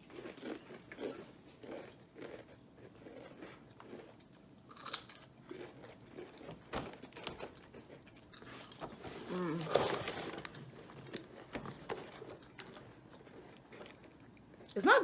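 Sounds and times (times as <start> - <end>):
potato chips crunching: 0.0 - 14.8.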